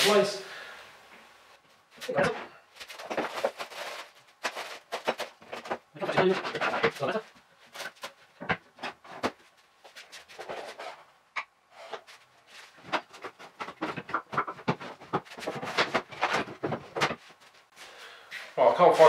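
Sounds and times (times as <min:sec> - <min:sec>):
rummaging through tools: 0:01.7 - 0:11.1, 0:11.7 - 0:19.0.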